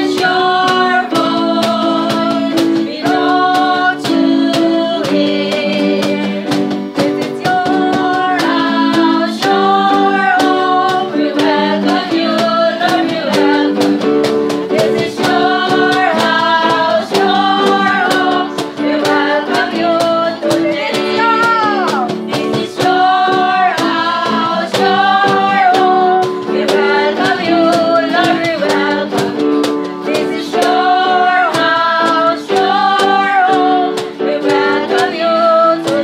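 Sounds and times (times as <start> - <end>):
strummed acoustic guitars: 0.0 - 36.0
women singing together: 0.0 - 36.0.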